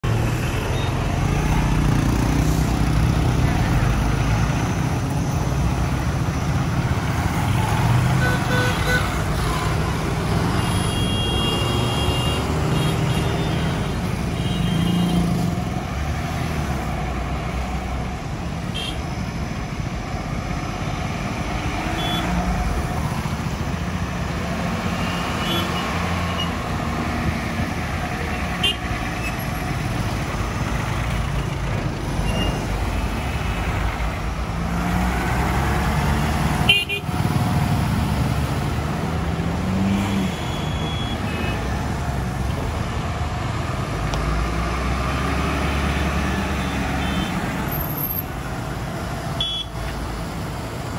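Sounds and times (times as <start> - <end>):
diesel truck engines: 0.0 - 50.9
motorcycles and cars passing: 0.0 - 50.9.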